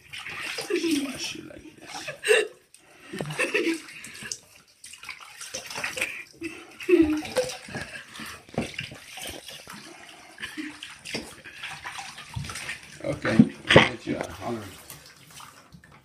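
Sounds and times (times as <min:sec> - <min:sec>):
bathwater splashing: 0:00.0 - 0:16.0.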